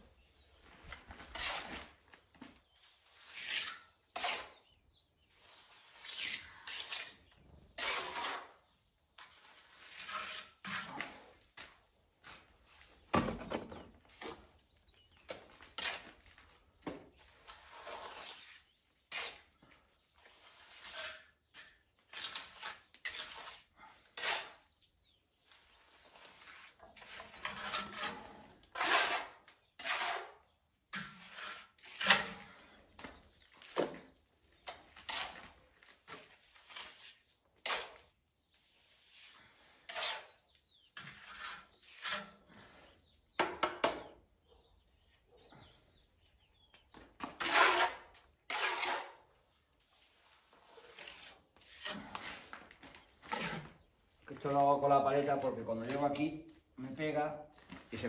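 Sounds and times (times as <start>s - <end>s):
trowel scraping mortar: 0.2s - 11.8s, 12.7s - 44.1s, 45.6s - 54.6s.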